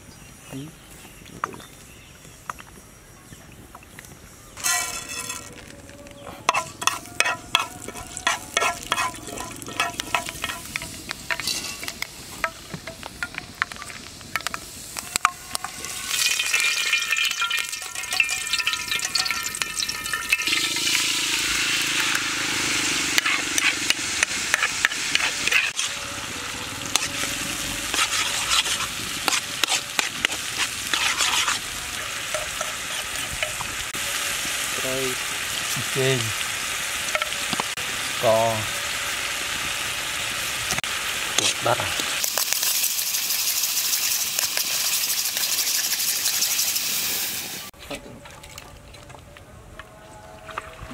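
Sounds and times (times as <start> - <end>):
wood fire: 3.5 - 38.7, 40.6 - 47.8
hot oil crackling and popping: 3.6 - 47.8.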